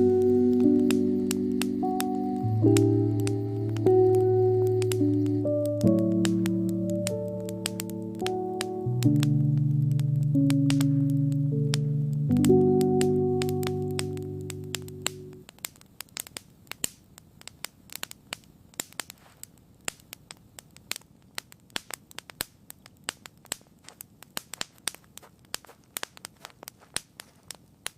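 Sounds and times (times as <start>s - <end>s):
campfire crackling: 0.0s - 27.9s.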